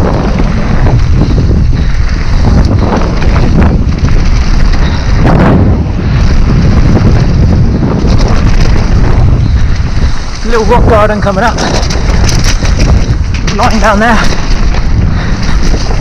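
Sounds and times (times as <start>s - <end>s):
bike knocks and rattles: 0.0s - 16.0s
bike tyres rumbling: 0.0s - 16.0s
wind buffeting microphone: 0.0s - 16.0s.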